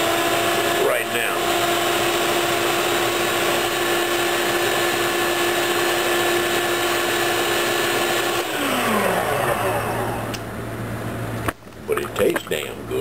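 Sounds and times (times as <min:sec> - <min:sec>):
food processor motor humming: 0:00.0 - 0:10.4.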